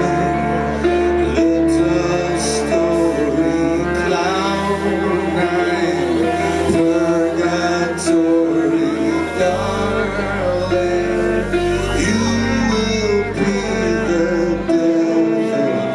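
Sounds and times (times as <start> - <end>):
live band instrumental: 0.0 - 15.9
sustained low bass note: 0.0 - 15.9.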